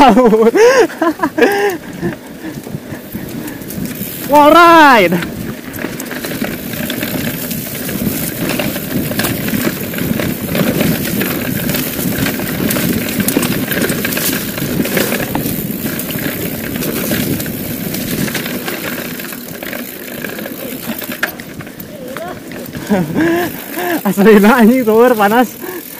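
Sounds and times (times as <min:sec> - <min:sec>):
bike rattling over bumps: 0:00.0 - 0:25.9
bike tyres on dirt: 0:00.0 - 0:25.9.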